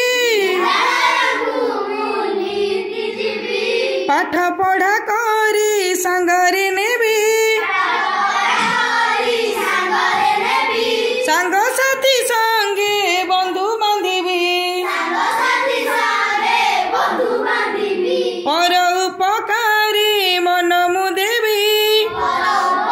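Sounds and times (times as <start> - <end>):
children singing a rhyme: 0.0 - 22.9.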